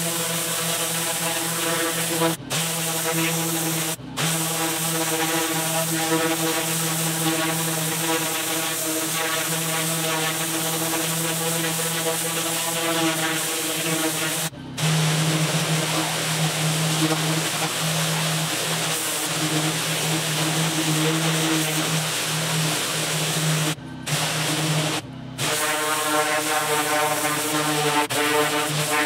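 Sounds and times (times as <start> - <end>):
high-pressure water spray hissing: 0.0 - 29.0
pressure washer motor hum: 0.0 - 29.0.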